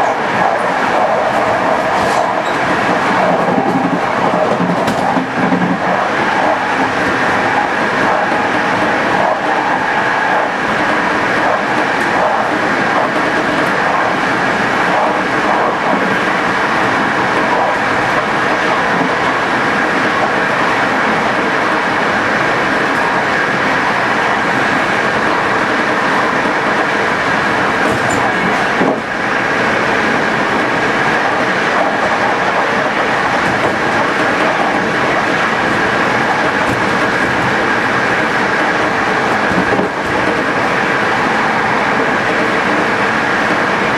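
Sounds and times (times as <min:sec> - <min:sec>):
train rumble and wheel-on-rail noise: 0:00.0 - 0:43.9.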